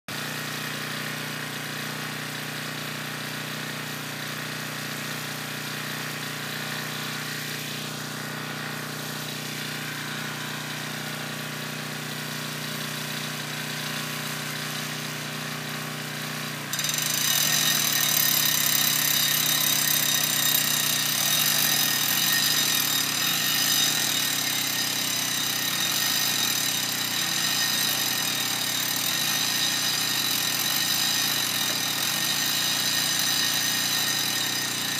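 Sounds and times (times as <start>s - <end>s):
powered rope winch running: 0.2s - 34.9s.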